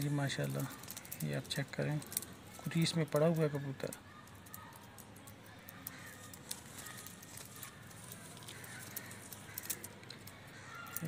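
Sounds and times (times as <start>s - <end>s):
soft handling rustles and ticks: 0.0s - 11.0s.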